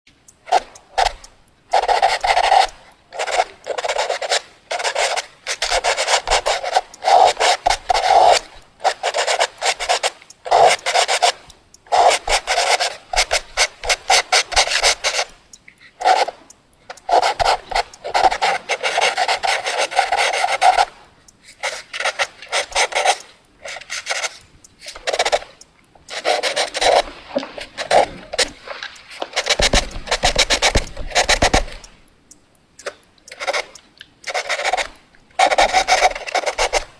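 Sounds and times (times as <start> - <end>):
pencil scratching on paper: 0.5 - 15.4, 16.0 - 16.4, 17.0 - 20.9, 21.6 - 28.6, 29.2 - 31.9, 33.3 - 36.9.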